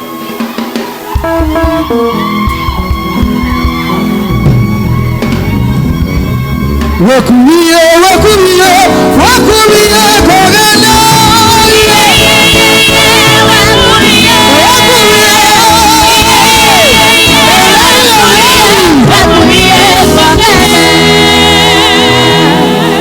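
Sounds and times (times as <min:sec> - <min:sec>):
backing band playing: 0:00.0 - 0:23.0
voices singing with vibrato: 0:00.0 - 0:23.0.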